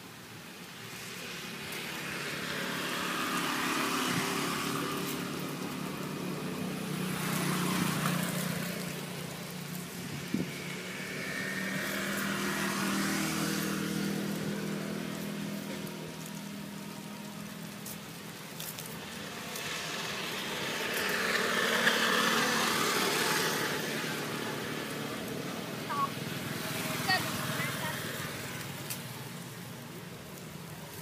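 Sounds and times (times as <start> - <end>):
vehicle engines passing: 0.0 - 31.0.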